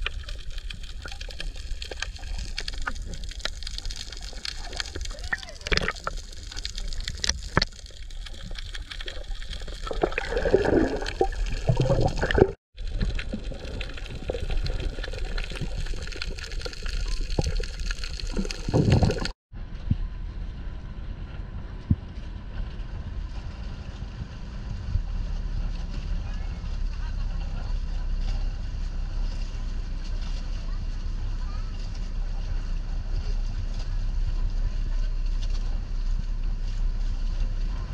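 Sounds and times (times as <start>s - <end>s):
water sloshing and bubbling: 0.0s - 20.1s, 21.3s - 37.9s
steady low rumble: 0.0s - 37.9s.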